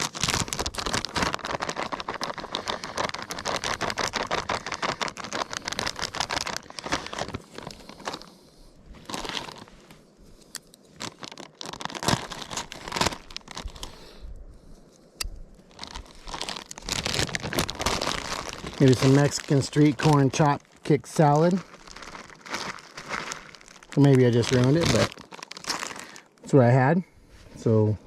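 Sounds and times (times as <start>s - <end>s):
plastic packaging crinkling: 0.0s - 14.0s, 15.7s - 26.5s.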